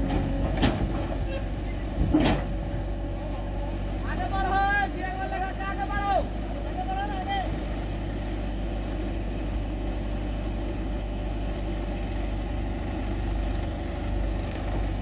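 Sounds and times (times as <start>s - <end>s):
diesel engine under load: 0.0s - 15.0s
tractor engine running: 0.0s - 15.0s.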